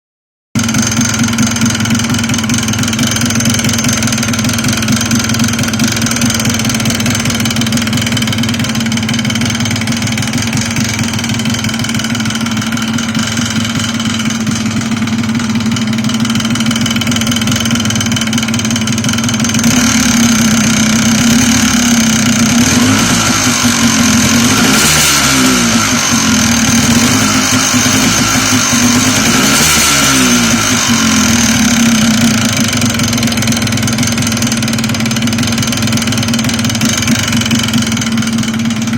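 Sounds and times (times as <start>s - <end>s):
engine knock: 0.6s - 38.9s
two-stroke engine idling: 0.6s - 38.9s.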